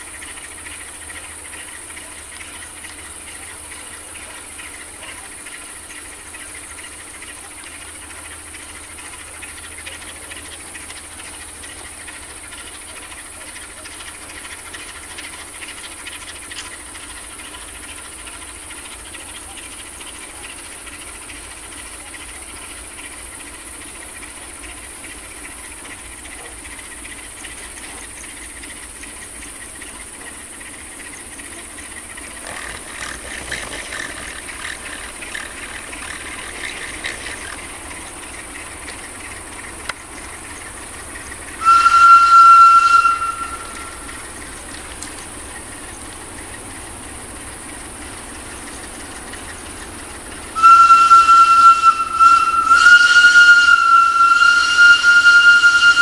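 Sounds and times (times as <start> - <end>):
constant hiss: 0.0 - 56.0
crackling rattle: 0.0 - 56.0
crickets chirping: 0.0 - 56.0.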